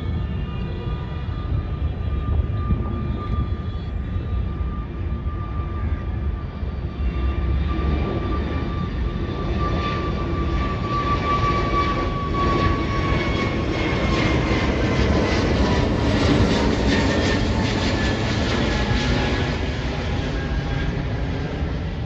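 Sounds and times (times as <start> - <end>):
jet engines at take-off: 0.0 - 22.0.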